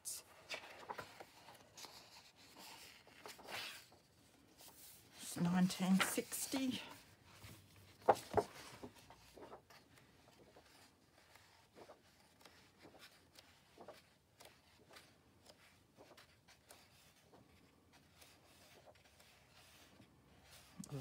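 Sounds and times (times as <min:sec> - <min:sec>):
book pages turning: 0:00.2 - 0:21.0.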